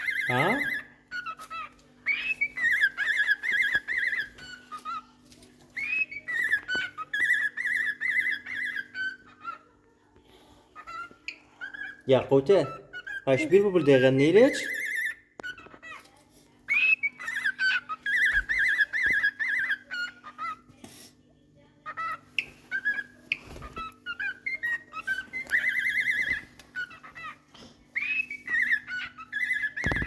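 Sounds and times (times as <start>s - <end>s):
cockatiel whistling song: 0.0s - 5.1s, 5.7s - 9.6s, 12.6s - 16.0s, 16.7s - 20.6s, 22.0s - 30.0s
cockatiel chirps: 0.0s - 9.8s, 10.8s - 21.0s, 21.8s - 30.0s.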